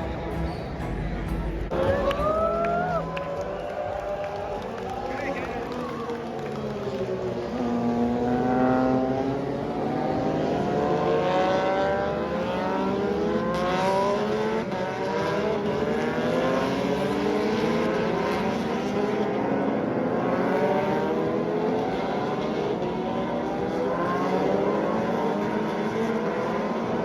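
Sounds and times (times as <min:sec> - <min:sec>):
racing motorcycle engines revving: 0:00.0 - 0:27.0.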